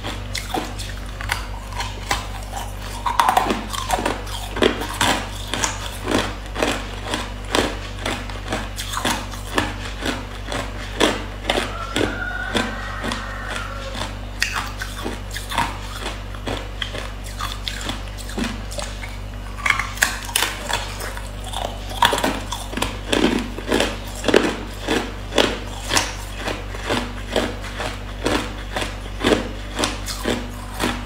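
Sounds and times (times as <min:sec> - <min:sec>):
ice crunching while chewed: 0:00.0 - 0:31.0.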